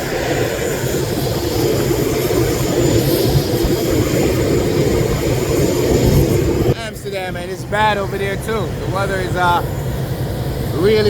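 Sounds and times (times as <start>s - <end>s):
airliner engines roaring: 0.0s - 11.0s.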